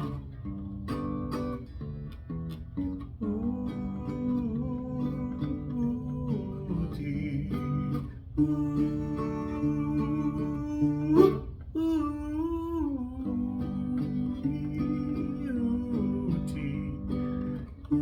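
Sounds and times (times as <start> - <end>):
acoustic guitar strumming: 0.0 - 18.0
wordless vocal line: 3.2 - 18.0.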